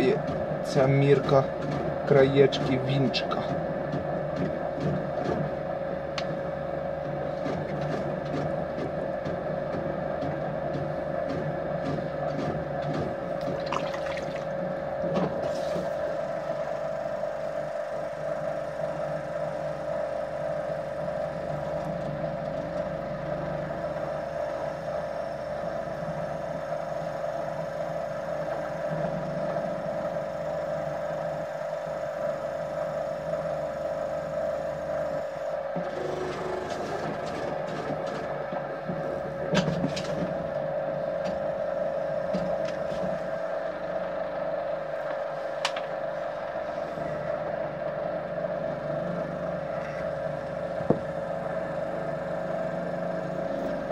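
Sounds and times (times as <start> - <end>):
potter's wheel motor hum: 0.0 - 53.9.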